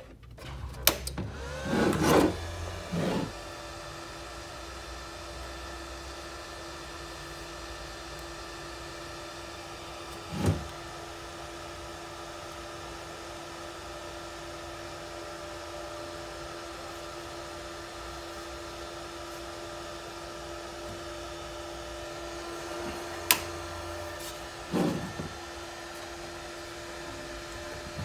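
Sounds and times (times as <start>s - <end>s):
welder cooling fan humming: 0.0s - 28.0s.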